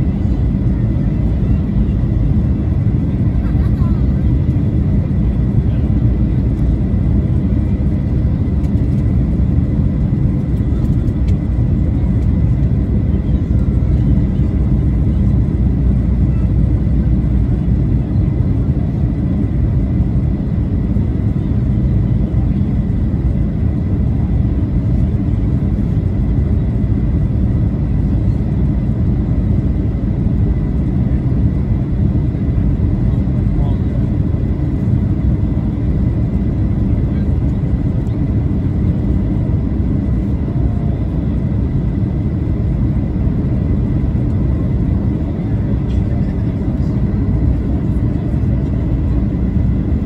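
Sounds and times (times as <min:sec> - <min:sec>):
jet engine rumble: 0:00.0 - 0:50.0.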